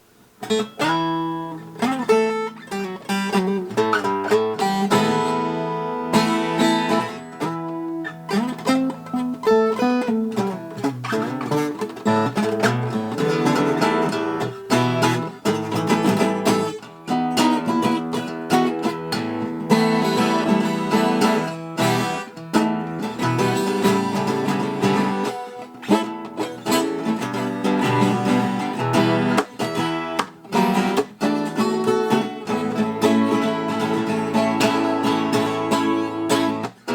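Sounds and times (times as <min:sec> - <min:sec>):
plucked string instrument: 0:00.4 - 0:36.9.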